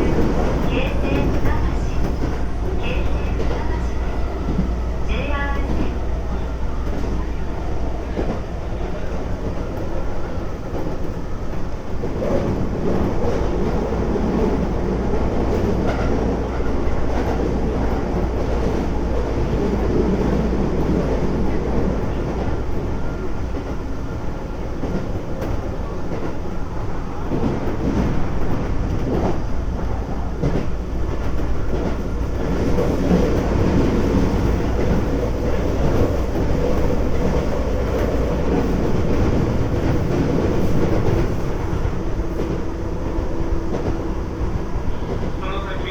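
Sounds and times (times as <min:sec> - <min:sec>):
electric train rumbling: 0:00.0 - 0:45.9
rail joint clacks: 0:00.0 - 0:45.9.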